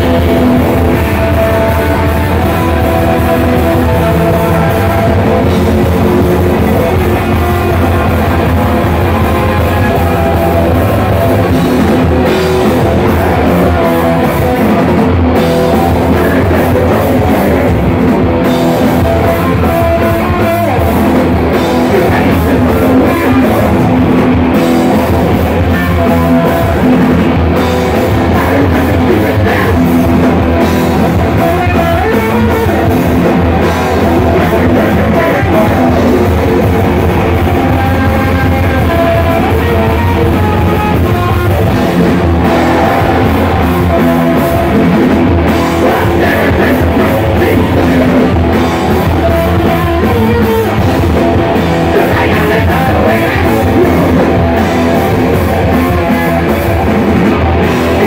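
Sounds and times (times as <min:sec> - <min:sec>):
drum kit: 0:00.0 - 0:58.0
electric bass: 0:00.0 - 0:58.0
electric guitar: 0:00.0 - 0:58.0.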